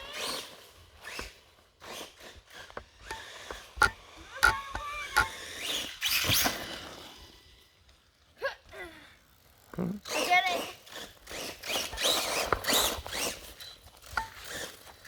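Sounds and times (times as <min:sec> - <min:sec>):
rc truck motor and tyres rushing: 0:00.0 - 0:15.0.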